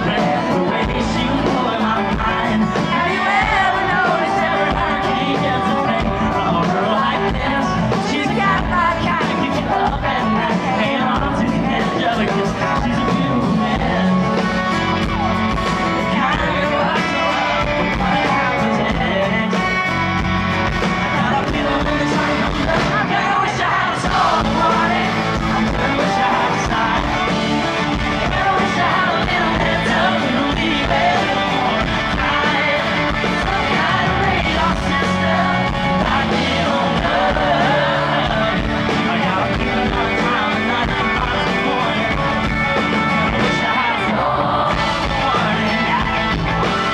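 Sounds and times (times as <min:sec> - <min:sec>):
crowd yelling along: 0:00.0 - 0:46.9
live country-pop band: 0:00.0 - 0:46.9
man singing lead: 0:00.0 - 0:46.9.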